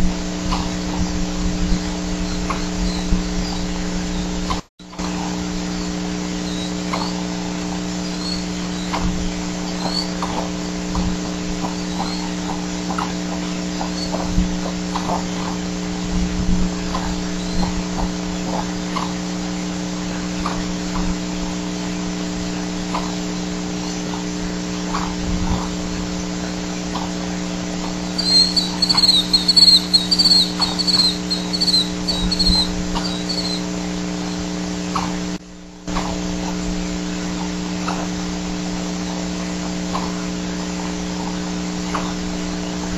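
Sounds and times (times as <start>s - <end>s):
rapid high chittering calls: 0.0s - 35.1s
steady microphone hum: 0.0s - 42.9s.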